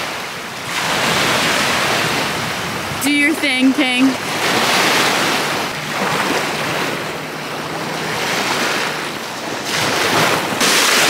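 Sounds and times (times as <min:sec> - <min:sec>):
gentle surf on shore: 0:00.0 - 0:11.0
wind on microphone: 0:00.0 - 0:11.0.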